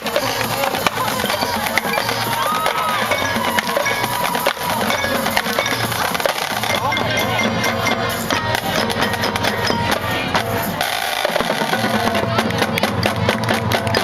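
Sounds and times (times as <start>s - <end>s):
drumline drums: 0.0s - 14.0s
marching band playing: 0.0s - 14.0s.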